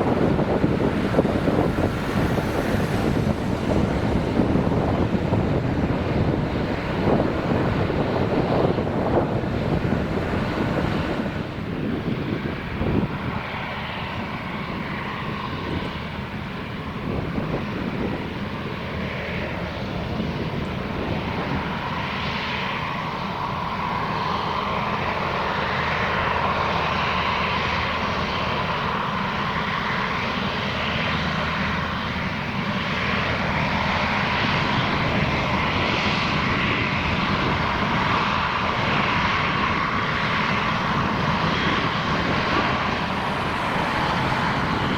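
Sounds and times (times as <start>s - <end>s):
jet engines rushing with whine: 0.0s - 44.9s.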